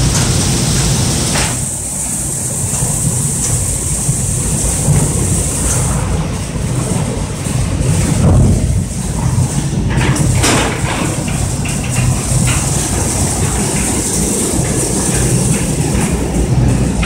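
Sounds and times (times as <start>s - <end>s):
belt lift rumbling: 0.0s - 17.0s.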